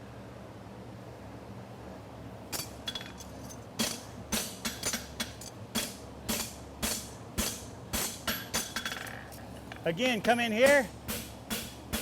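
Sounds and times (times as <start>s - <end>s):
low fan hum: 0.0s - 12.0s.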